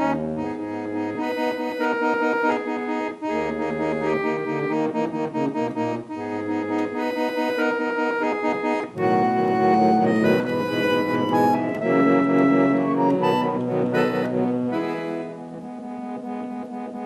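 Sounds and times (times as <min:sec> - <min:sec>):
harmonium playing chords and melody: 0:00.0 - 0:17.0.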